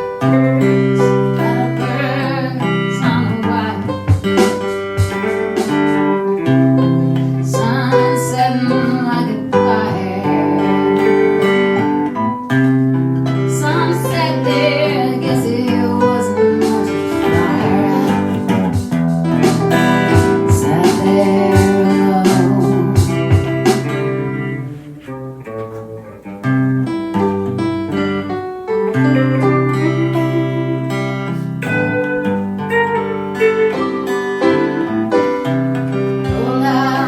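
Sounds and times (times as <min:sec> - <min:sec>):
acoustic guitar chords: 0:00.0 - 0:37.0.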